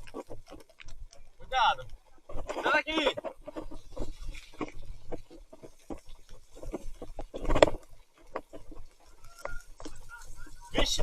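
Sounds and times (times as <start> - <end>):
bike rattling on rough ground: 0.0 - 11.0.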